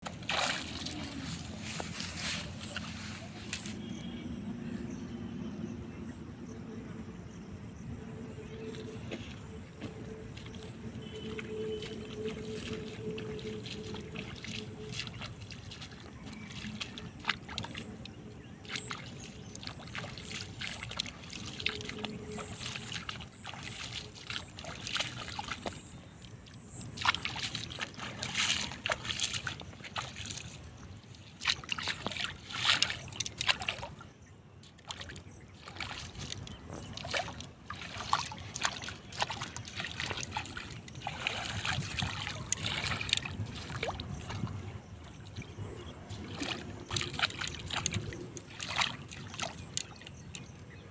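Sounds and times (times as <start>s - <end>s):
water sloshing and splashing: 0.0s - 4.5s, 8.2s - 50.9s.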